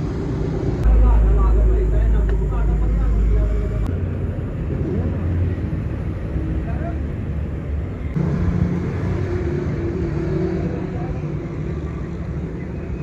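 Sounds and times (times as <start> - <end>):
low mechanical rumble with drone: 0.0 - 13.0.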